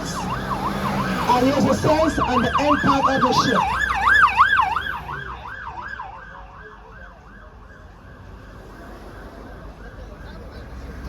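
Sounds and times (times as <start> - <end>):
emergency siren warbling: 0.0 - 10.3
faint road traffic: 0.0 - 11.0.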